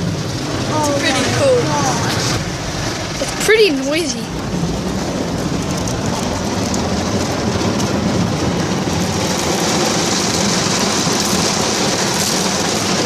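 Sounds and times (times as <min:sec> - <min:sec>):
car wash water spray and machinery: 0:00.0 - 0:13.0.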